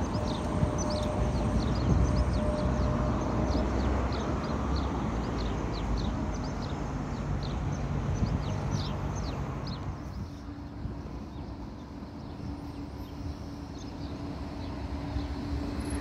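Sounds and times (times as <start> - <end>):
birds chirping: 0.0 - 16.0
tram rumbling: 0.0 - 16.0.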